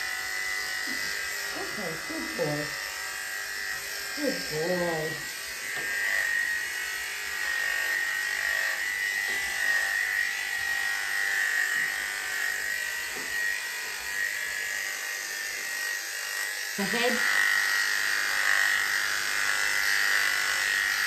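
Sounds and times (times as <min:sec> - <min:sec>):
electric dog clippers humming: 0:00.0 - 0:21.0.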